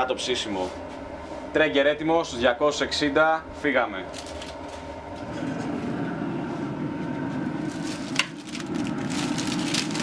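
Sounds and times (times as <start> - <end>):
grill fan humming: 0.0 - 10.0.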